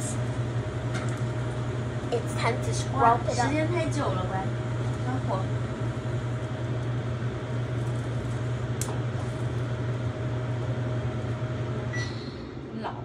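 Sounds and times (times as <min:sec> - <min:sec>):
fan hum: 0:00.0 - 0:13.0.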